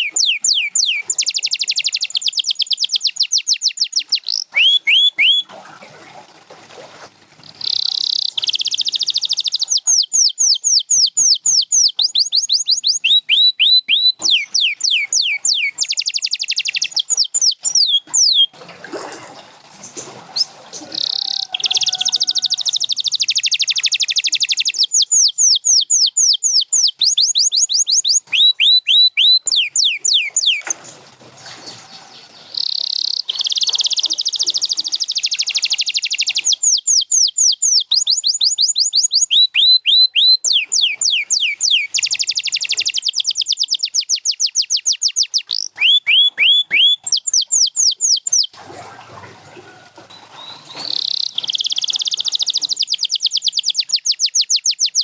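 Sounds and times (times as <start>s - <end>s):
canary singing trills: 0.0s - 5.5s, 7.6s - 18.6s, 20.3s - 48.6s, 50.1s - 55.0s.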